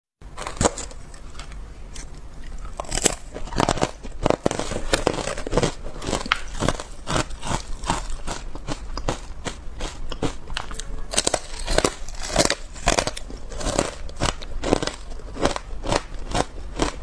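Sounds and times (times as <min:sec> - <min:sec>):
ice sticks crackling and crunching: 0:00.4 - 0:17.0.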